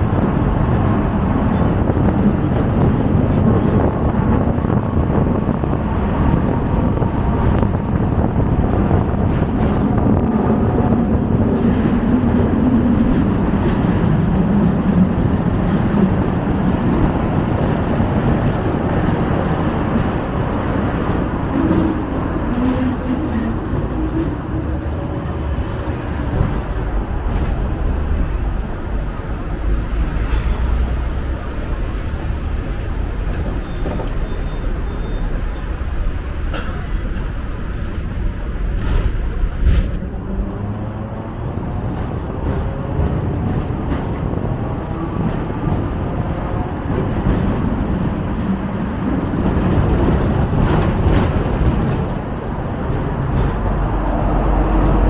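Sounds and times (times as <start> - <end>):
tram rumbling on rails: 0.0 - 55.0.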